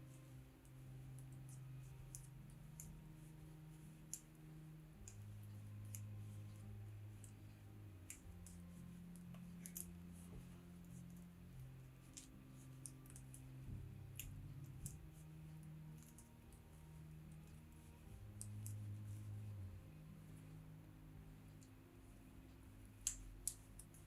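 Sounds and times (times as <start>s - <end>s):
knitting needles clicking: 0.0s - 24.0s
soft low held music notes: 0.0s - 24.0s.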